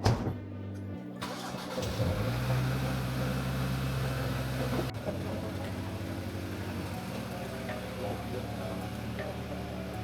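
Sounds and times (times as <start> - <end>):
car engine and road hum: 1.5 - 10.0.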